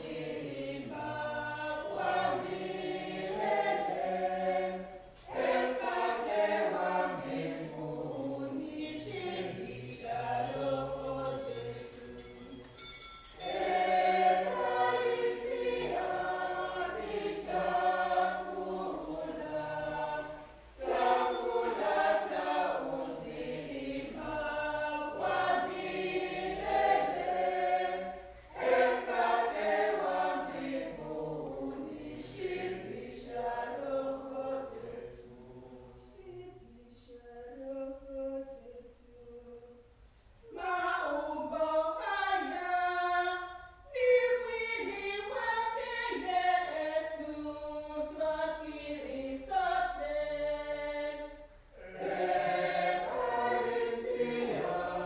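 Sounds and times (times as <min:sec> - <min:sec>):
choir singing a hymn: 0:00.0 - 0:12.8, 0:13.4 - 0:39.8, 0:40.4 - 0:55.0.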